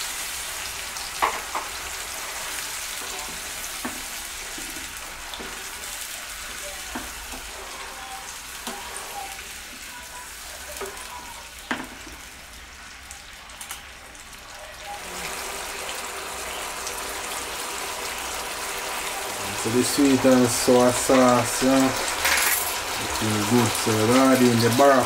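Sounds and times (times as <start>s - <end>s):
sauce hissing in a pan: 0.0s - 25.0s.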